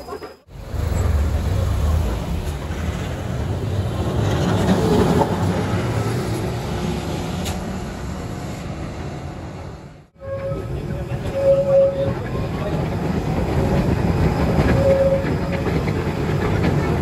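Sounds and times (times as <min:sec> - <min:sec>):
tram rumbling and rattling on rails: 0:00.0 - 0:17.0.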